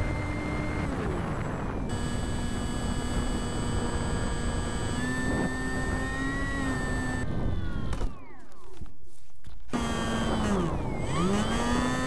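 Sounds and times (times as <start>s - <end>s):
electric motor and propeller whining: 0.0s - 8.9s, 9.7s - 12.0s.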